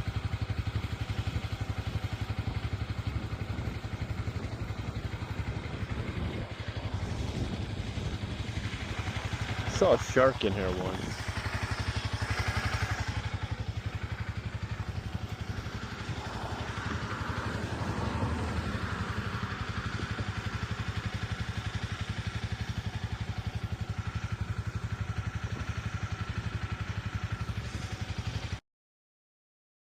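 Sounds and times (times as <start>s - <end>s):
motorcycle engine idling: 0.0s - 28.6s.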